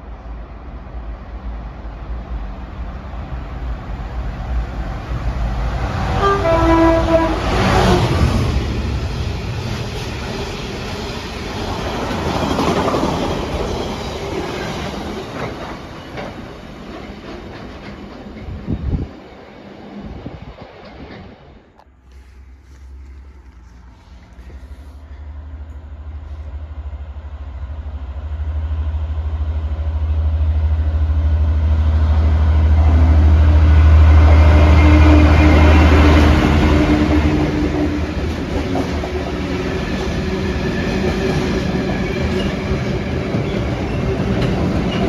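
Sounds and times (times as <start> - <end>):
freight train wheels rumbling: 0.0 - 45.0.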